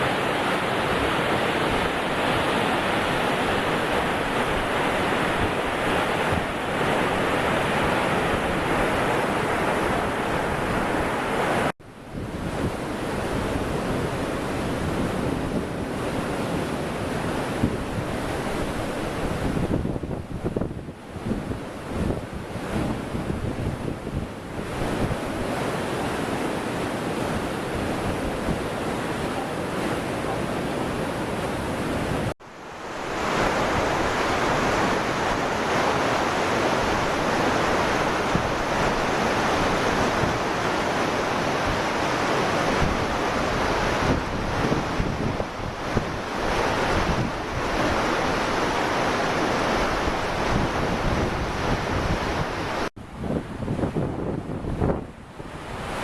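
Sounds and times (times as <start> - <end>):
floodwater rushing: 0.0 - 56.0
wind buffeting microphone: 0.0 - 56.0.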